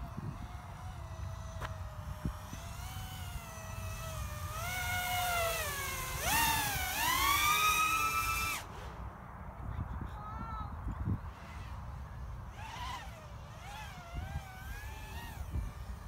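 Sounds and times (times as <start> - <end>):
drone motors whining: 0.0 - 9.0, 11.3 - 16.0.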